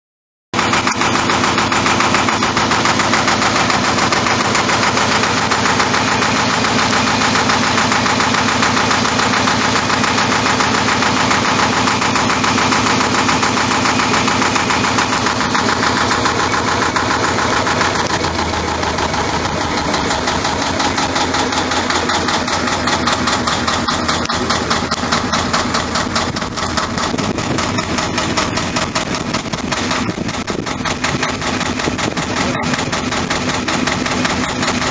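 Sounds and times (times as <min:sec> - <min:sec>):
diesel engine clattering: 0:00.5 - 0:34.9.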